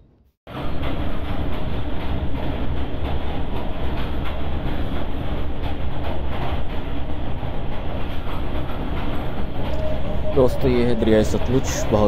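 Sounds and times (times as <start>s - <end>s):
train wheels rumbling on rails: 0.5s - 12.0s.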